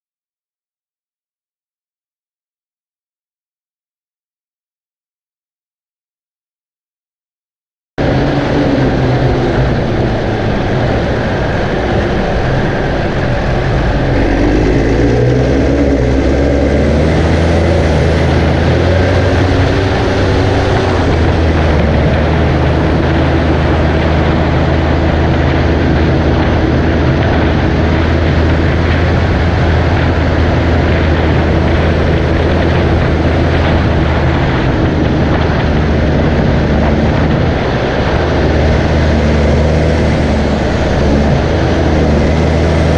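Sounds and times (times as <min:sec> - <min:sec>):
tractor diesel engine running hard: 0:08.0 - 0:42.9.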